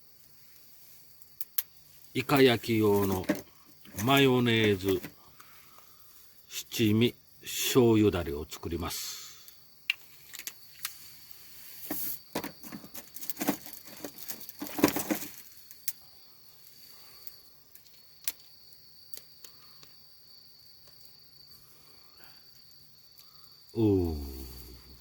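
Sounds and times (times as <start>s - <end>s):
high insect trill: 0.0s - 25.0s.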